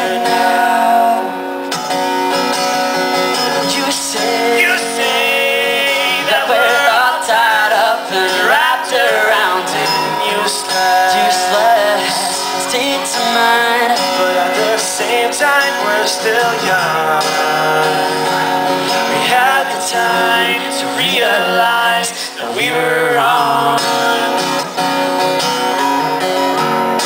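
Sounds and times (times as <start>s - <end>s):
man singing: 0.0s - 1.4s, 3.1s - 24.7s
acoustic guitar strumming chords: 0.0s - 27.0s.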